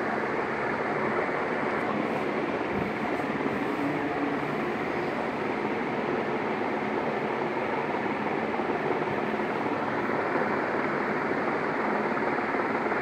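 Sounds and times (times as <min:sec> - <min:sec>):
ceiling fan whoosh: 0:00.0 - 0:13.0.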